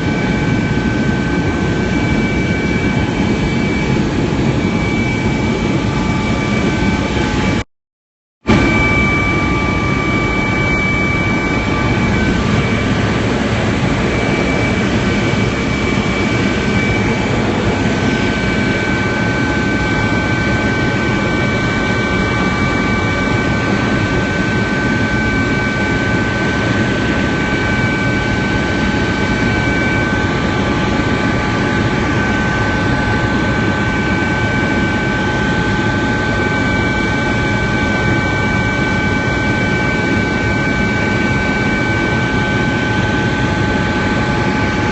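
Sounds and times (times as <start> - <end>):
helicopter rotor and engine noise: 0.0 - 7.6, 8.4 - 44.9
high turbine whine: 0.0 - 7.7, 8.4 - 44.9.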